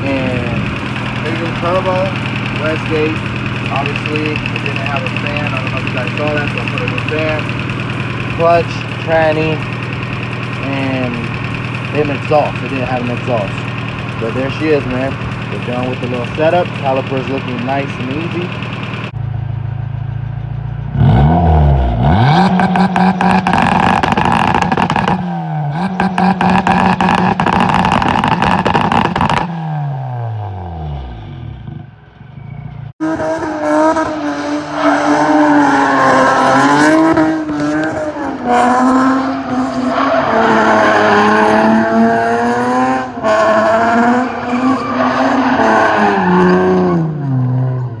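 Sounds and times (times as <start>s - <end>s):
engine revving at high revs: 0.0s - 19.2s, 20.9s - 48.0s
car engine crackling and popping: 0.0s - 48.0s.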